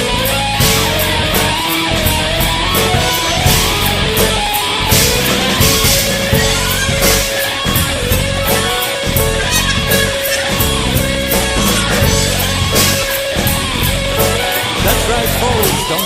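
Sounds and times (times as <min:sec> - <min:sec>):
instrumental rock music: 0:00.0 - 0:16.0.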